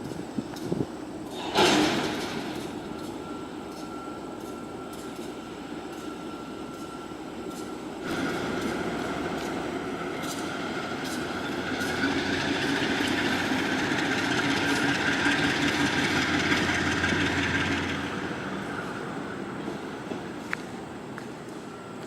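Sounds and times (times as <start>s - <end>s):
freight train rumbling past: 0.0s - 22.0s
train wheels clicking: 0.0s - 22.0s.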